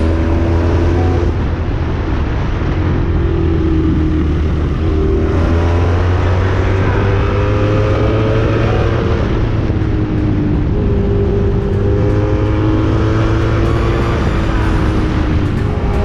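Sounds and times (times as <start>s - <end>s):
motorcycle engine running hard: 0.0s - 16.0s
wind noise: 0.0s - 16.0s.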